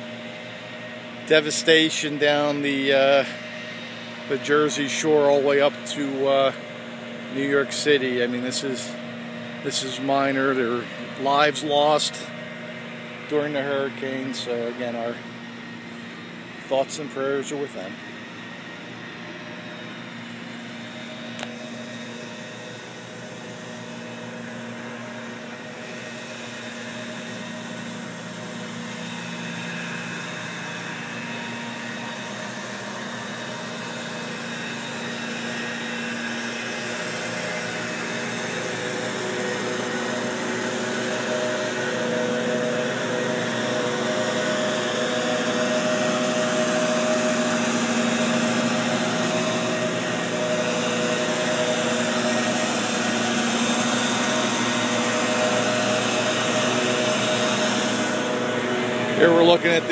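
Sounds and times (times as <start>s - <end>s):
machine motor humming: 0.0s - 59.9s.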